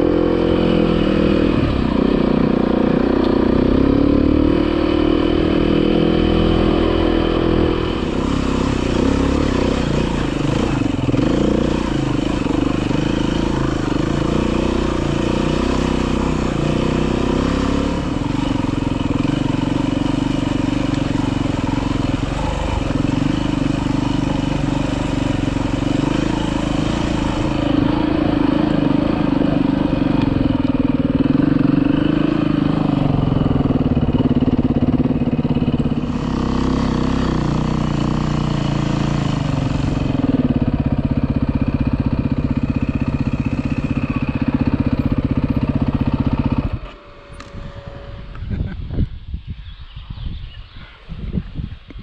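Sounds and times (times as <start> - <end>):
dirt bike engine running: 0.0 - 49.2.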